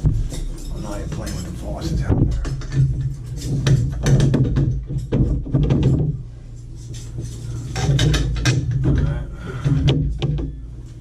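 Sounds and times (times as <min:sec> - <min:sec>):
tools and parts clattering: 0:00.0 - 0:10.6
steady low hum: 0:00.0 - 0:11.0.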